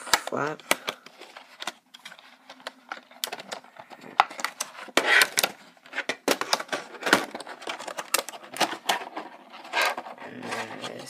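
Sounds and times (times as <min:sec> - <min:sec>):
cardboard and plastic packaging handled: 0:00.0 - 0:11.0.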